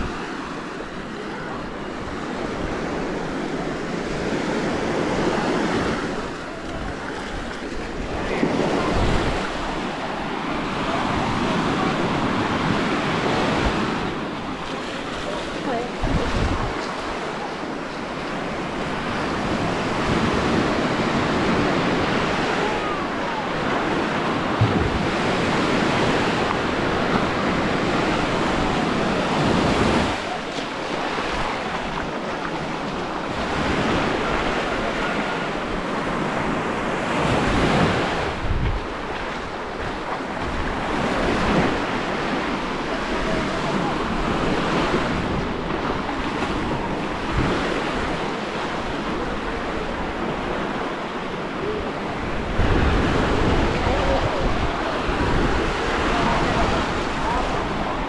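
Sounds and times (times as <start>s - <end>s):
surf washing on sandy shore: 0.0s - 58.0s
wind buffeting microphone: 1.3s - 58.0s.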